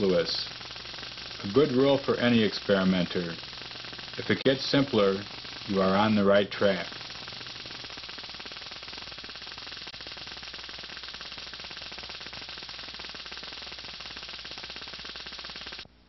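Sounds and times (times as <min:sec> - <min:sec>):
electrical sparks crackling: 0:00.0 - 0:15.9
low electrical hum: 0:00.0 - 0:16.0.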